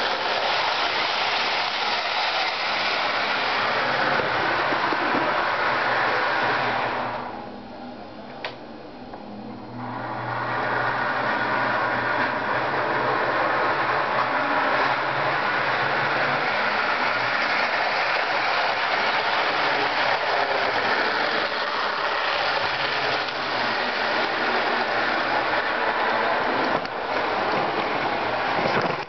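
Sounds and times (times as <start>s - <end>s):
model train motor whirring: 0.0s - 7.3s, 10.3s - 29.0s.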